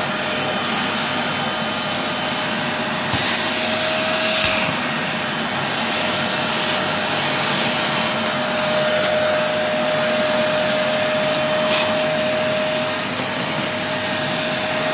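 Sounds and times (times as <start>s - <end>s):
workshop vacuum running: 0.0s - 14.9s.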